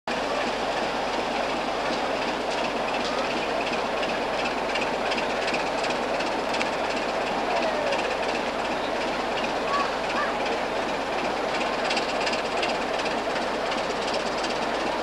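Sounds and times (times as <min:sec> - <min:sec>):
diesel locomotive rumbling: 0:00.1 - 0:15.0
wheels clicking: 0:01.5 - 0:15.0.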